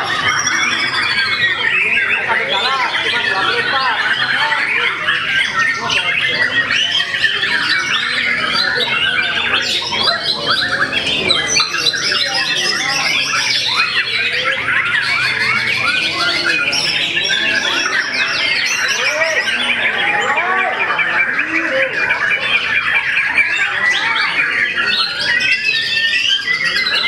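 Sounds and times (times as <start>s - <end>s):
many birds singing: 0.0s - 27.0s.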